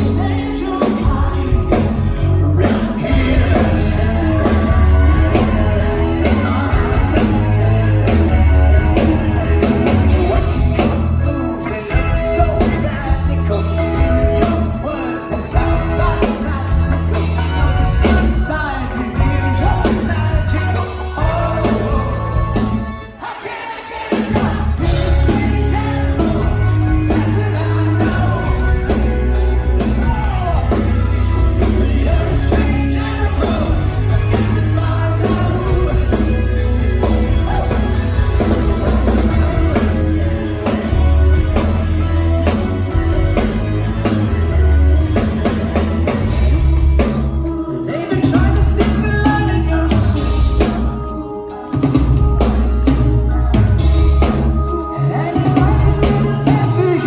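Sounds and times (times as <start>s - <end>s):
live rock band with singing: 0.0s - 57.0s.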